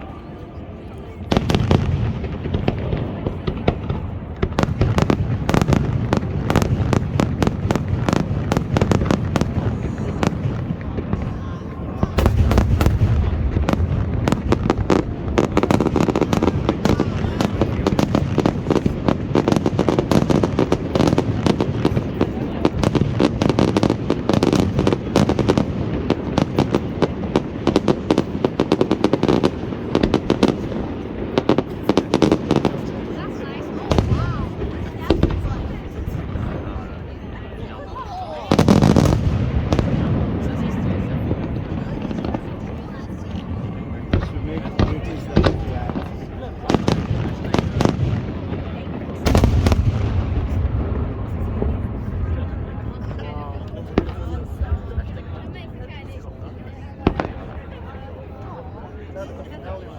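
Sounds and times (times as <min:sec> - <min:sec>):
fireworks cracks and bangs: 0:00.4 - 0:59.9.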